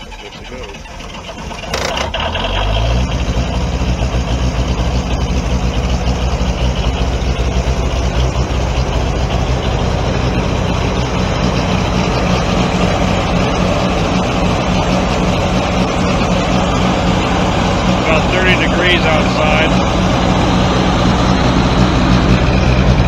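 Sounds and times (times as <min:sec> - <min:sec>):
diesel engine starting and running: 0:00.0 - 0:23.0.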